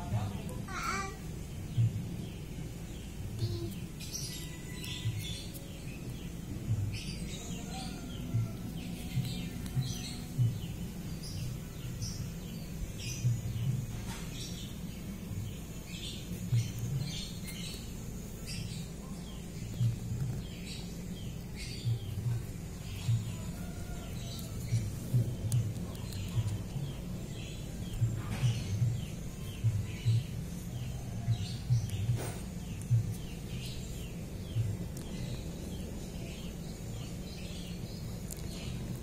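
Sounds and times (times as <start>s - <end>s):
small birds chirping: 0.0s - 39.0s
soft low bumps: 1.3s - 4.4s, 5.0s - 39.0s.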